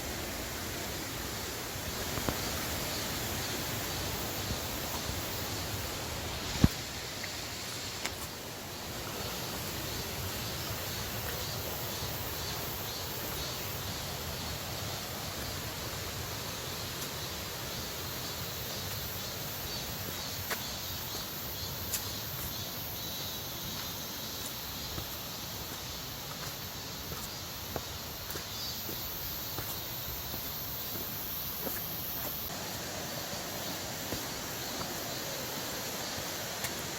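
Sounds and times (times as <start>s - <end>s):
mountain stream rushing: 0.0s - 20.9s, 23.4s - 36.9s.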